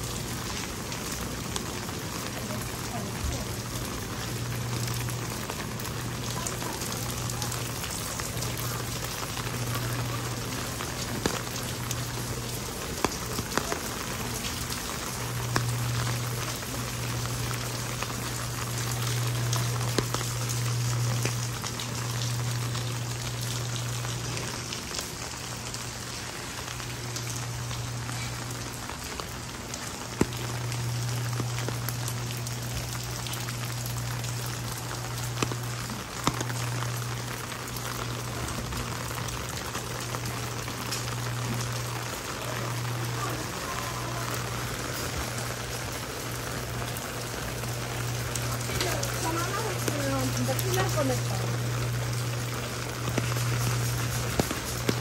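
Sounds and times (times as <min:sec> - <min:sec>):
heavy rain on umbrella: 0:00.0 - 0:55.0.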